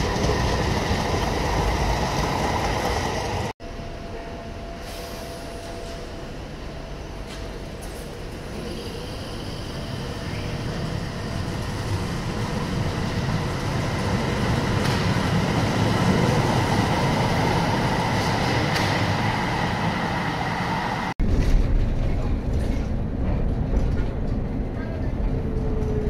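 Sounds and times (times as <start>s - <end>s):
train running rumble and whine: 0.0s - 26.0s.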